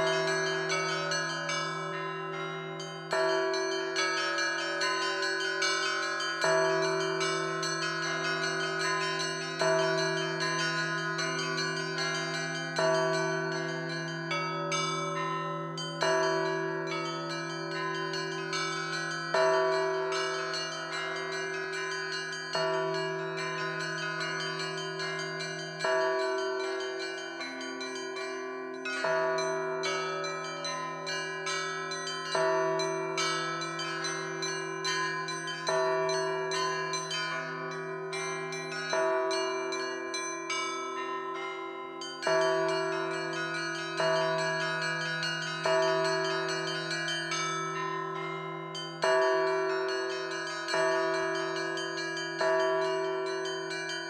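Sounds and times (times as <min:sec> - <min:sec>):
large church bell tolling: 0:00.0 - 0:54.0
small bells chiming: 0:00.0 - 0:54.0.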